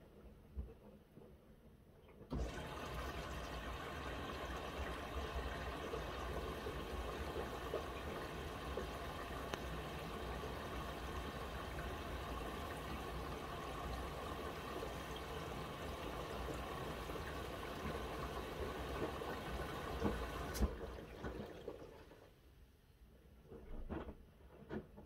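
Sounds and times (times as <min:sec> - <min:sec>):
water rushing into washing machine: 0:02.3 - 0:22.4.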